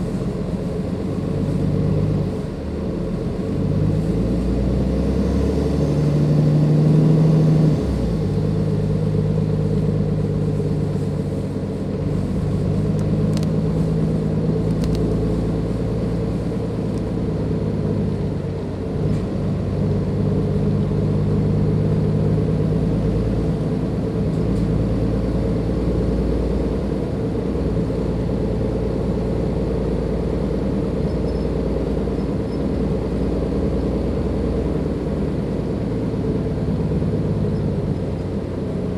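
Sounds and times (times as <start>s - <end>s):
bus diesel engine under load: 0.0s - 38.9s.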